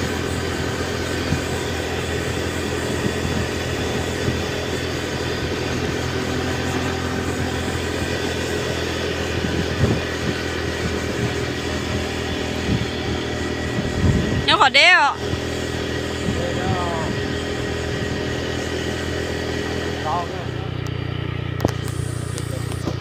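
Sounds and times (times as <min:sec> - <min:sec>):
road or wind noise: 0:00.0 - 0:23.0
vehicle engine running: 0:00.0 - 0:23.0.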